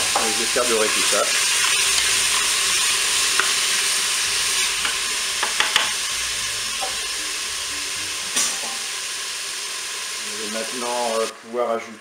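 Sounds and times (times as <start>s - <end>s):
sausage and onions sizzling: 0.0s - 12.0s.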